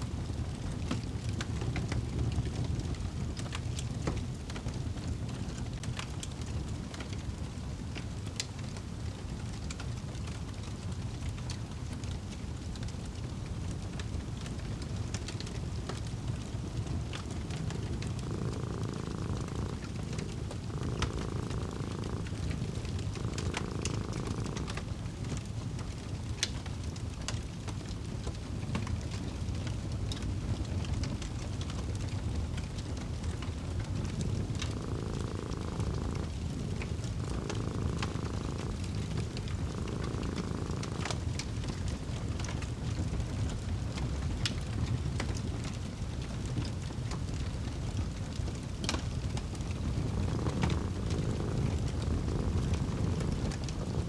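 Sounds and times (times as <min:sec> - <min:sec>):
cat purring: 0:00.0 - 0:54.0
wood fire crackling: 0:00.1 - 0:54.0.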